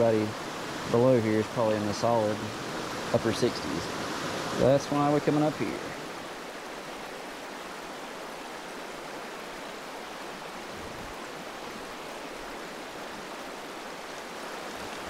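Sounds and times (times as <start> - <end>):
stream flowing over stones: 0.0 - 15.0.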